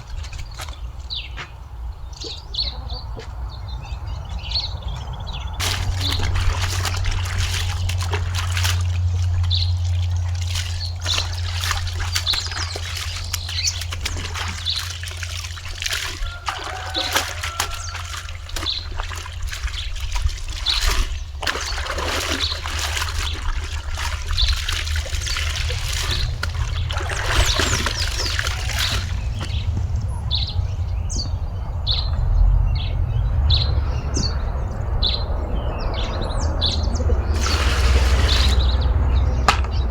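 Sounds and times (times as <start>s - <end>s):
water trickling and splashing: 0.0s - 2.6s, 3.3s - 30.5s, 36.7s - 39.7s
birds chirping: 0.0s - 39.9s.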